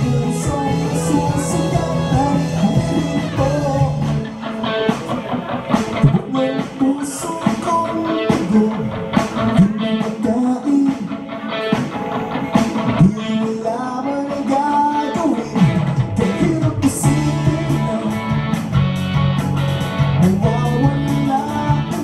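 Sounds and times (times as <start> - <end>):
man singing: 0.0 - 18.7, 20.1 - 22.0
live rock band playing: 0.0 - 22.0.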